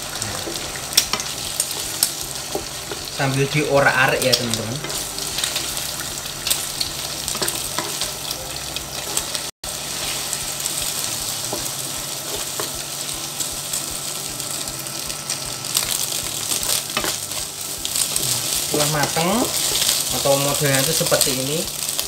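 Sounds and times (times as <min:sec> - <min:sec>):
eggs sizzling in hot oil: 0:00.0 - 0:22.0.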